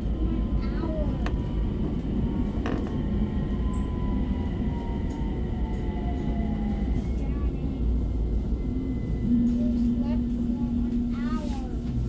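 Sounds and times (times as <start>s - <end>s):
tram rumble on rails: 0.0s - 12.0s
tram whine: 0.0s - 12.0s.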